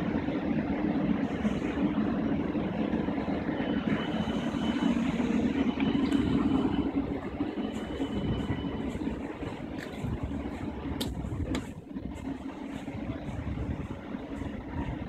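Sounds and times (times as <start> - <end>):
faint high whine: 0.0 - 15.0
train equipment hum and whir: 0.0 - 15.0.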